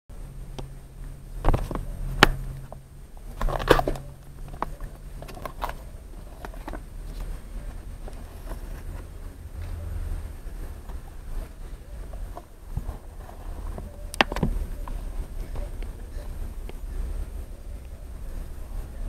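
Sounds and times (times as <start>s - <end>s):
faint low hum: 0.1s - 19.0s
cardboard rustling: 1.4s - 16.9s.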